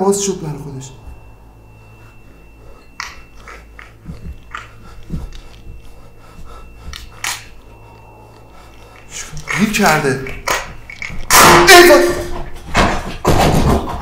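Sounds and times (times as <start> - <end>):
faint high whine: 0.0 - 14.0
low hum: 0.0 - 14.0.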